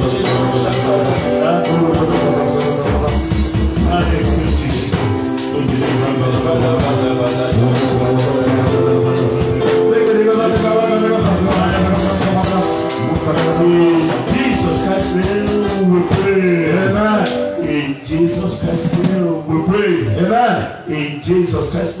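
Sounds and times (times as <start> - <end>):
worship music singing: 0.0 - 22.0.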